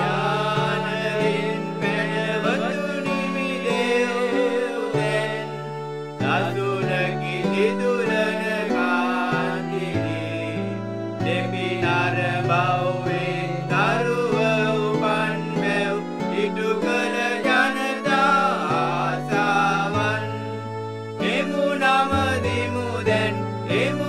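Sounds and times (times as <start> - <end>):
person singing with accompaniment: 0.0 - 24.0.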